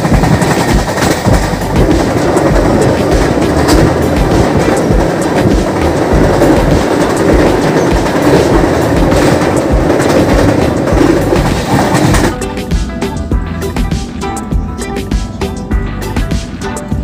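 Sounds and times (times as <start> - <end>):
wheels clattering over rail joints: 0.0 - 15.1
train rumble inside coach: 0.0 - 17.0.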